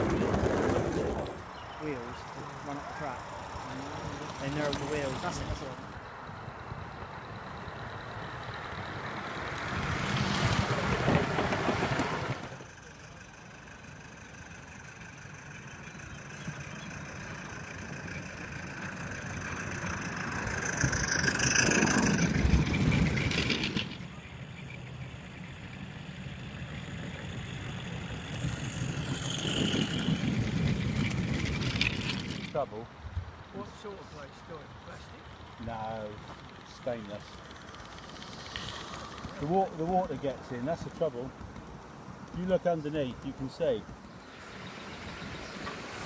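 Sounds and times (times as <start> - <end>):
model locomotive rumbling: 0.0 - 46.0.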